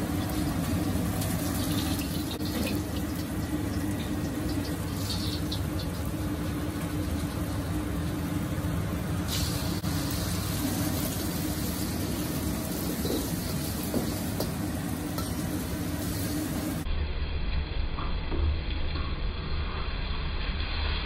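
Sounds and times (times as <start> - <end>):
eggs sizzling in oil: 0.0 - 16.9
gas burner rushing: 0.0 - 16.9.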